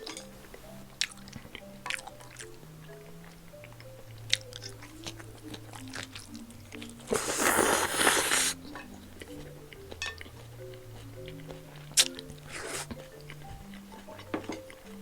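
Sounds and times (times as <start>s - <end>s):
person chewing with mouth clicks: 0.0s - 15.0s
soft background music: 0.0s - 15.0s.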